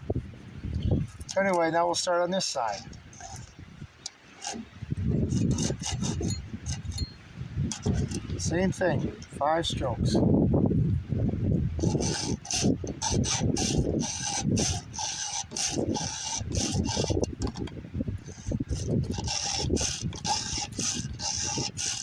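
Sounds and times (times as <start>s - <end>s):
hand file rasping on chain: 1.0s - 9.3s, 11.8s - 22.0s.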